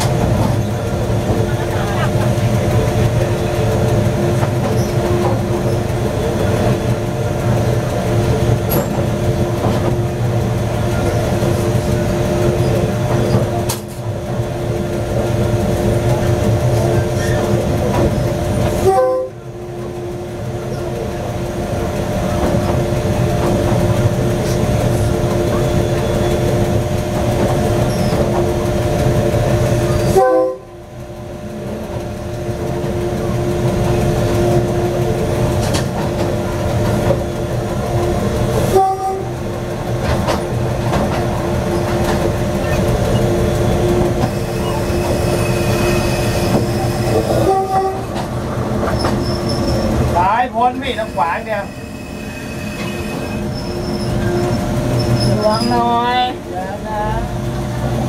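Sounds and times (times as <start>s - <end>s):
diesel locomotive drone: 0.0s - 58.0s
wheels rumbling on rails: 0.0s - 58.0s.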